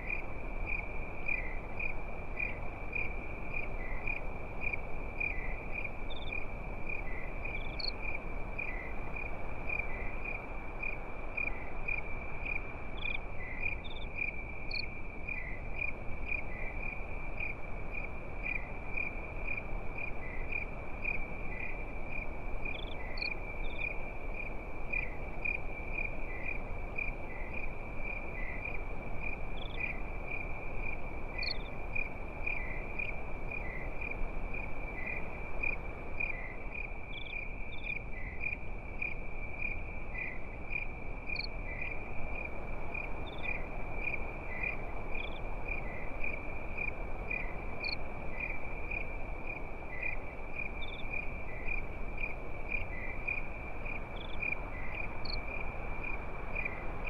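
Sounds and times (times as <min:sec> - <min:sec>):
campfire hiss and crackle: 0:00.0 - 0:57.0
crickets chirping: 0:00.0 - 0:57.0.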